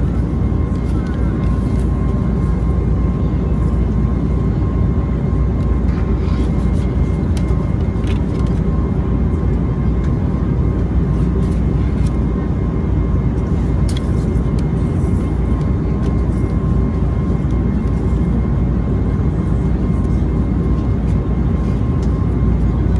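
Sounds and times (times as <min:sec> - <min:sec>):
airliner cabin rumble: 0:00.0 - 0:22.9.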